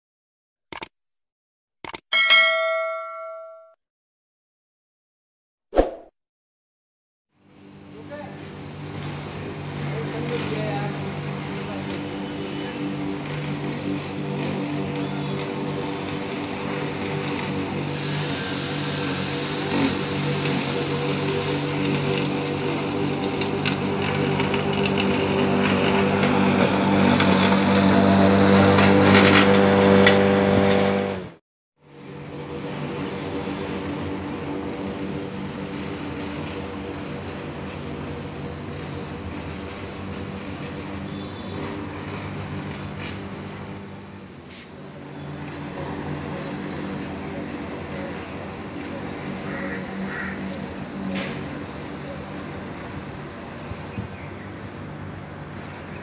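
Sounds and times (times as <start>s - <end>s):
electric lawn mower running: 7.4s - 56.0s.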